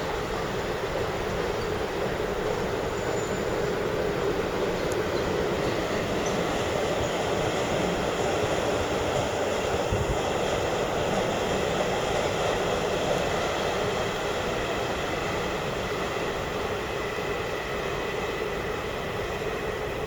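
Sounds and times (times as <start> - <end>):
electric train rolling: 0.0 - 20.0.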